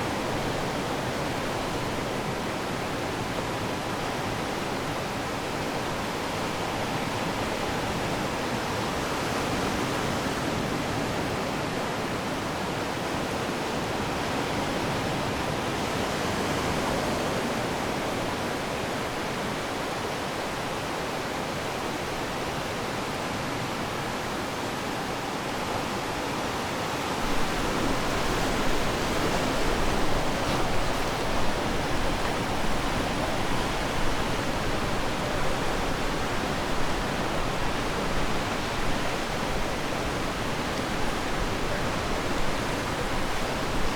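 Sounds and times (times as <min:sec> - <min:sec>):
ocean surf washing ashore: 0:00.0 - 0:43.9.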